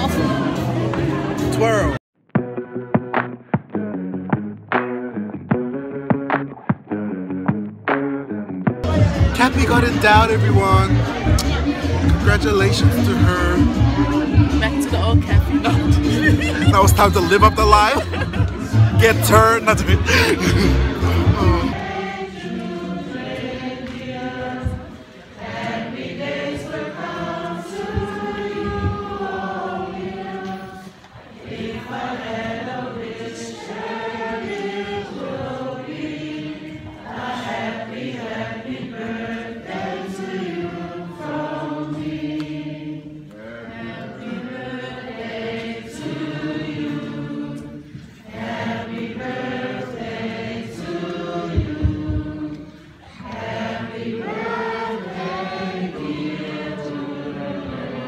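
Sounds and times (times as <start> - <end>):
group singing in harmony: 0.0 - 2.0, 8.8 - 58.0.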